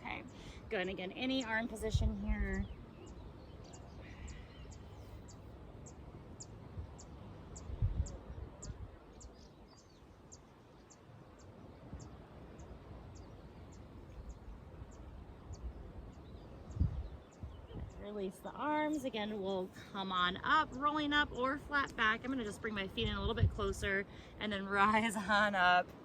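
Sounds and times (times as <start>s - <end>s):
wind rumble on microphone: 0.0s - 19.6s, 20.2s - 26.0s.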